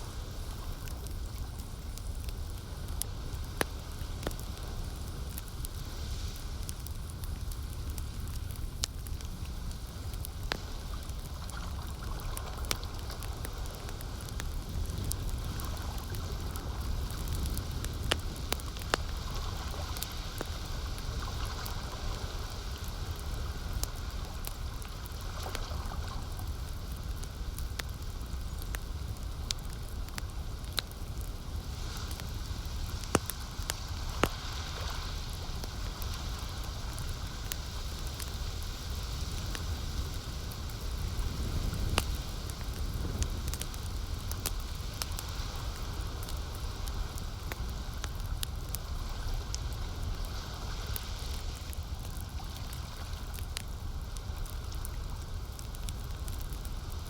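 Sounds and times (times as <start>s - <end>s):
campfire crackling: 0.0s - 57.0s
sharp fire pops: 0.8s - 57.0s.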